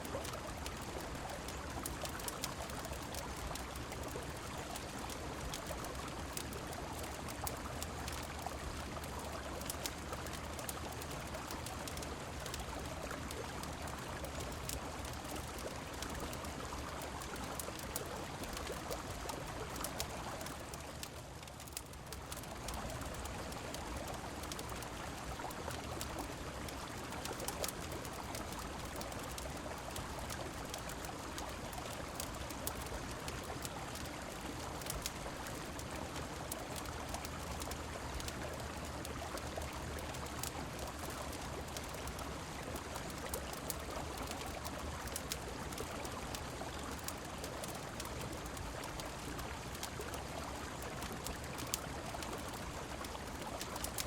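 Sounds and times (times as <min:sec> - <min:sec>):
falling rain: 0:00.0 - 0:54.0
fireplace fire crackling: 0:00.0 - 0:54.0.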